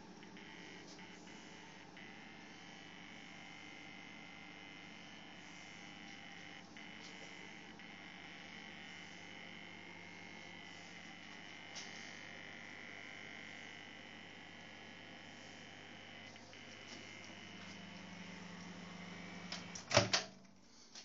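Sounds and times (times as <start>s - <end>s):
electrical buzz: 0.0s - 20.1s
mains hum: 0.0s - 21.0s.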